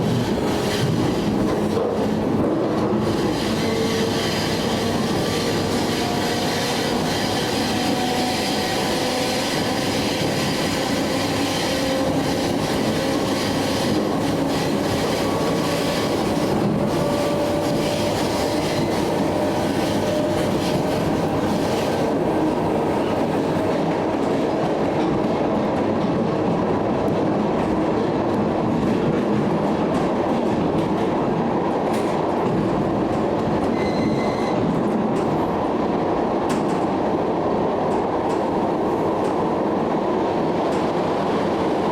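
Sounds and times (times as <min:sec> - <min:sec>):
train rolling on tracks: 0:00.0 - 0:41.9.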